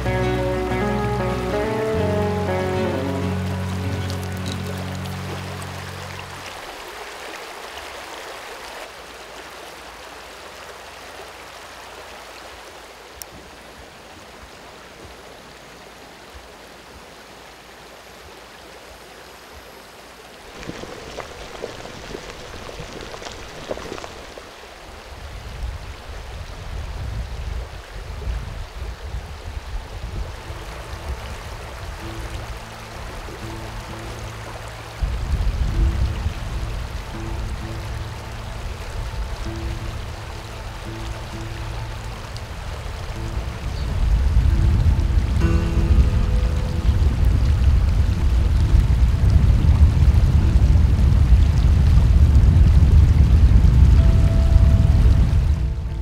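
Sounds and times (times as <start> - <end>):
river water running over stones: 0.0 - 56.0.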